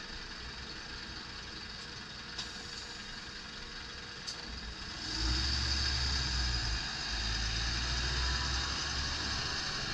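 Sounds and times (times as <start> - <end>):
diesel truck engine: 0.0 - 9.9.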